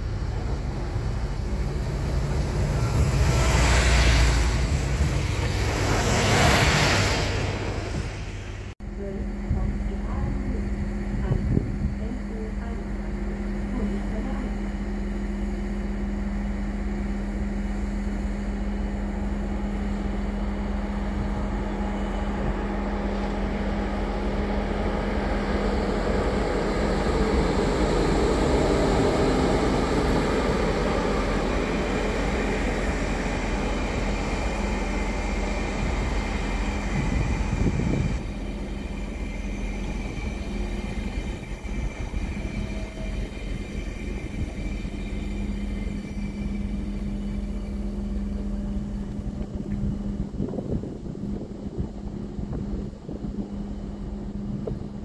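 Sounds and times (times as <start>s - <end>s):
steady low hum: 0.0s - 55.0s
train rolling on rails: 0.0s - 55.0s.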